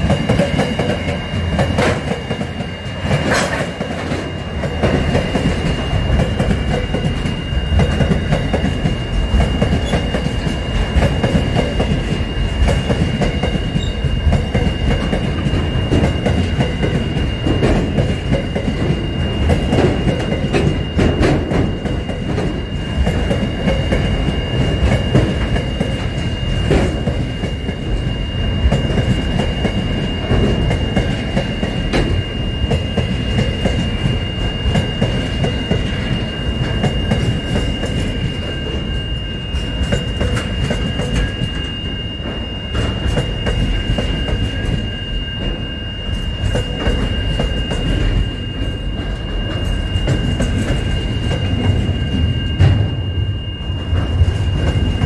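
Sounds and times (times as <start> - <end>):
steady high whine: 0.0 - 55.0
train wheels rumbling on rails: 0.0 - 55.0.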